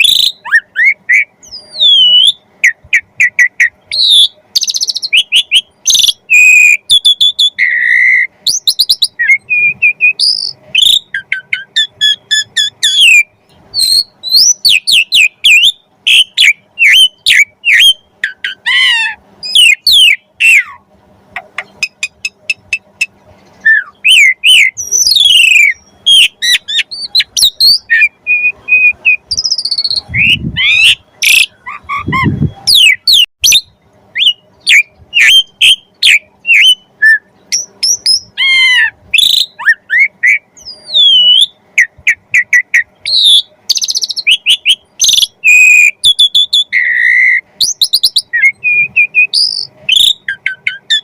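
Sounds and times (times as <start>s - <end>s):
starling singing: 0.0s - 51.0s.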